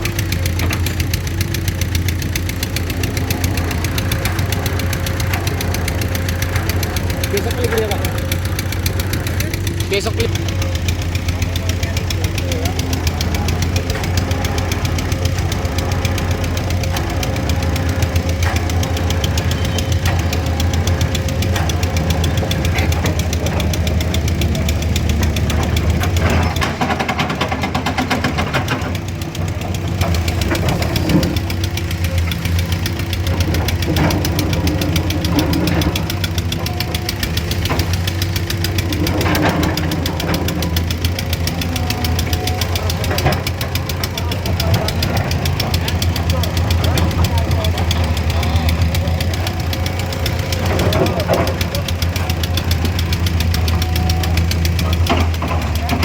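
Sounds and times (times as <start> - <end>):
heavy machinery engine clattering: 0.0 - 56.0.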